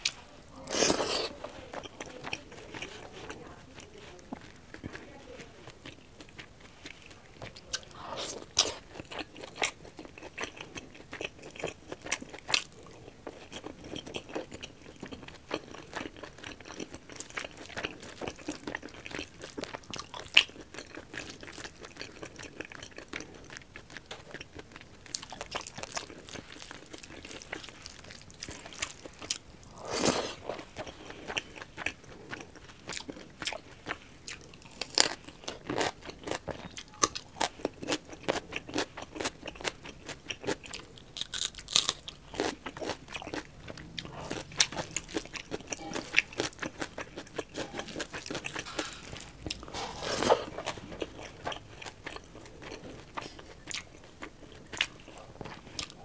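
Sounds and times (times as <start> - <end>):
chewing and smacking: 0.0 - 56.0.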